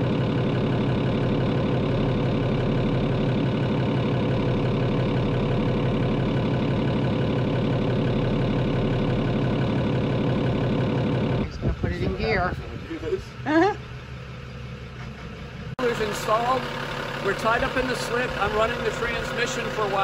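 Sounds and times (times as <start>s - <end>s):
constant engine whine: 0.0s - 20.0s
diesel engine idling: 0.0s - 20.0s.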